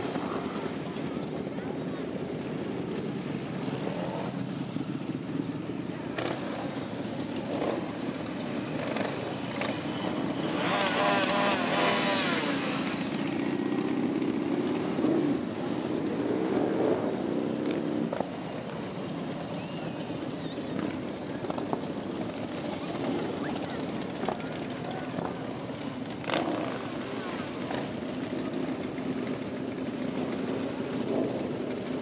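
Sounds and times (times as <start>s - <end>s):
motorcycles riding past: 0.0s - 32.0s.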